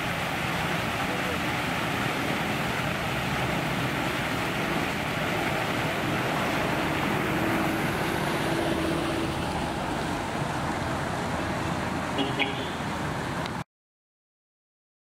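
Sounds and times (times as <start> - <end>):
traffic rushing: 0.0 - 13.6
wind: 0.0 - 13.6.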